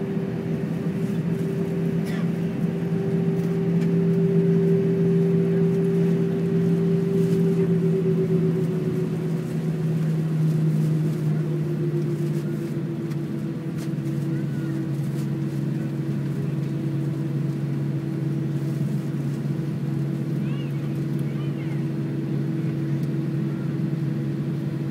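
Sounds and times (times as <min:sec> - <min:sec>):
jet engines winding down: 0:00.0 - 0:24.9.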